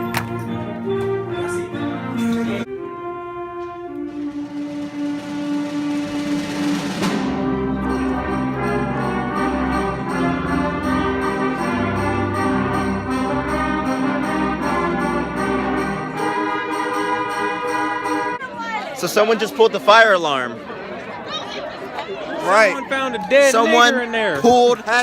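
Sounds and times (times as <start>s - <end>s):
brass band playing chords: 0.0s - 21.1s.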